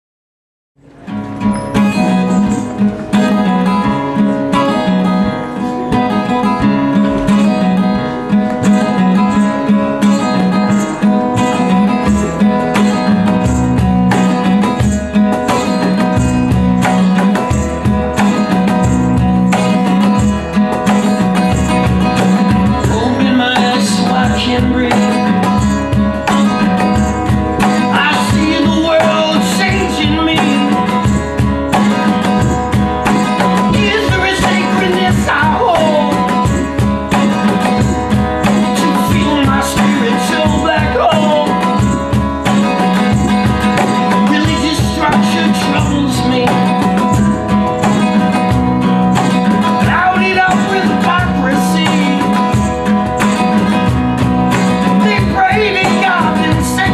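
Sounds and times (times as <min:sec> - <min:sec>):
strummed acoustic guitar: 0:00.8 - 0:56.9
steady beat: 0:01.1 - 0:56.9.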